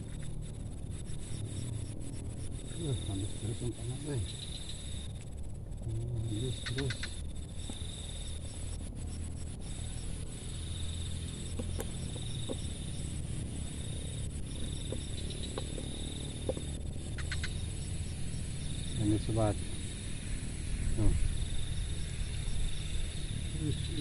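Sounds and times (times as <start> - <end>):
insects trilling: 0.0 - 24.0
low steady rumble: 0.0 - 24.0.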